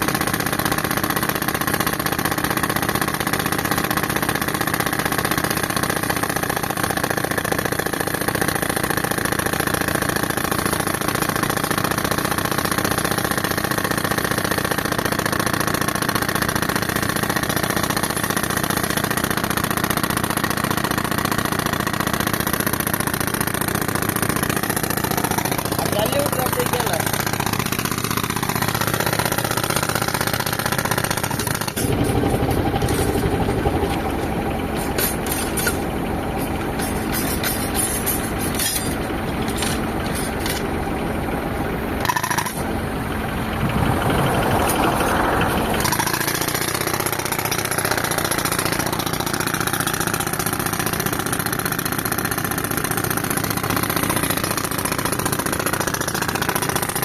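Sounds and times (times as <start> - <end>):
pneumatic breaker hammering concrete: 0.0 - 43.0, 44.5 - 57.0
air compressor engine running: 0.0 - 57.0.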